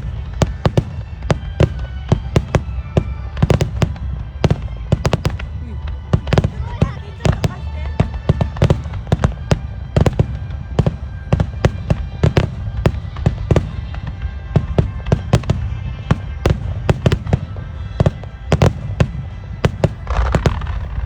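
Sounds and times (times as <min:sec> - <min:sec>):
low rumble of explosions: 0:00.0 - 0:21.0.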